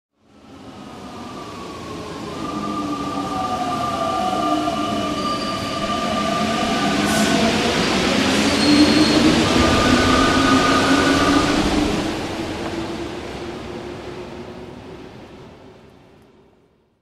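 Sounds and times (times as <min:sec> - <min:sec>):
train whining tones: 0:00.4 - 0:15.9
train wheels rumbling: 0:01.2 - 0:16.2.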